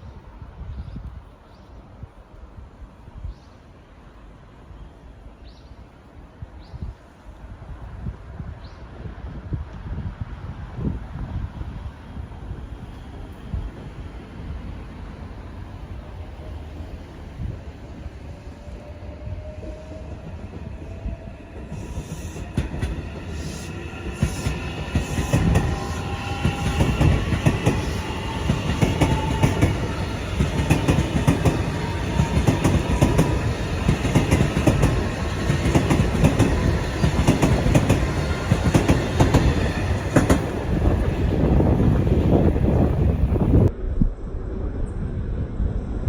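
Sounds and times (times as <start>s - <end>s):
electric train passing: 7.2s - 46.0s.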